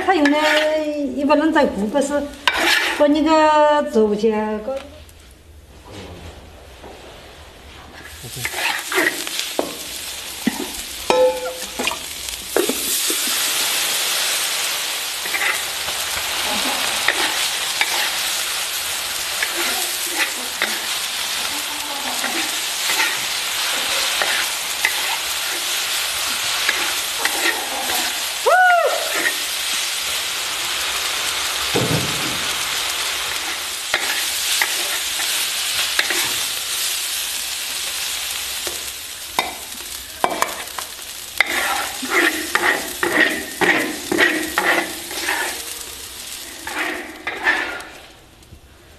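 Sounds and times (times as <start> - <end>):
spatula scraping wok: 0.0 - 1.0, 2.0 - 3.3, 7.1 - 28.4, 29.0 - 31.6, 32.5 - 48.2
vegetables sizzling in wok: 0.0 - 5.0, 7.0 - 48.9.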